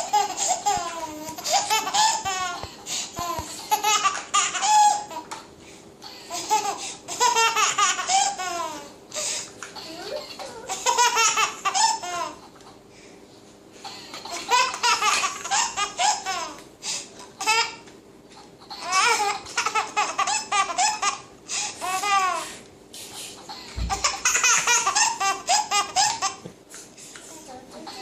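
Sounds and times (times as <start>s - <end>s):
baby laughing: 0.0s - 5.4s, 6.0s - 12.7s, 13.8s - 16.6s, 17.2s - 22.6s, 23.3s - 26.5s, 27.7s - 28.0s.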